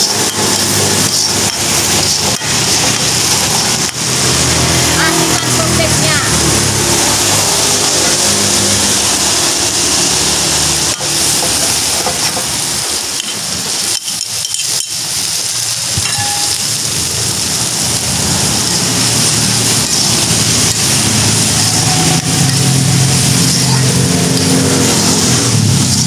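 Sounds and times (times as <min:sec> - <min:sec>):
food sizzling in hot oil: 0:00.0 - 0:26.0
metal tongs scraping wok: 0:00.0 - 0:26.0.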